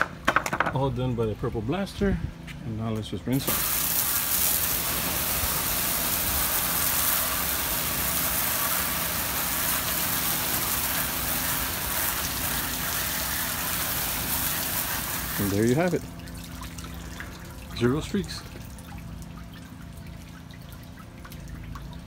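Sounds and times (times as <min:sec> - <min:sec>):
hose water spraying on boat hull: 0:03.3 - 0:22.0
water splashing: 0:03.4 - 0:22.0.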